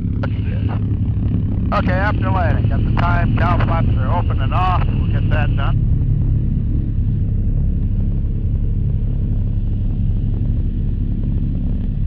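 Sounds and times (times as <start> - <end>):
piston aircraft engines rumbling: 0.0 - 12.0.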